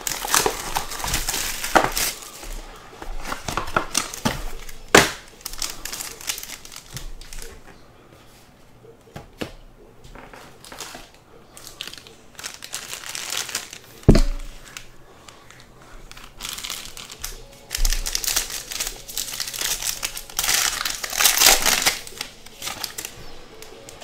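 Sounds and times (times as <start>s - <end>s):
plastic wrapping crinkling: 0.0s - 7.8s, 10.1s - 24.0s.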